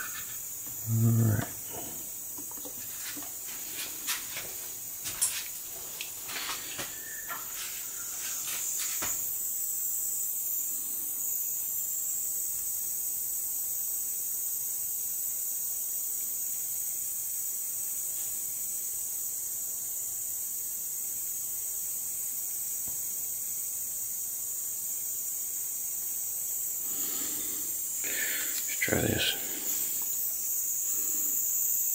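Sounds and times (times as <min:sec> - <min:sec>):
high-pitched hiss: 0:00.0 - 0:31.9.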